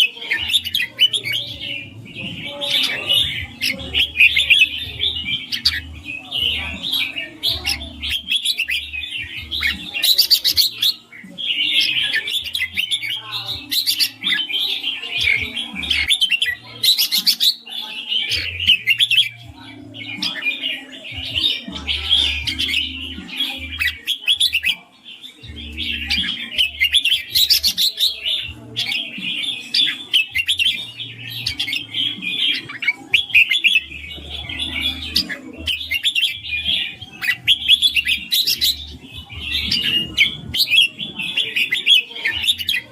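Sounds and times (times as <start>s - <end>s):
bird singing chirping phrases: 0.0s - 42.9s.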